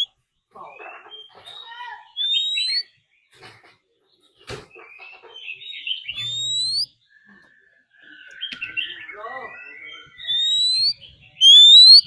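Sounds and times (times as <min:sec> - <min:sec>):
bird singing whistles and warbles: 0:00.0 - 0:03.0, 0:04.6 - 0:12.0.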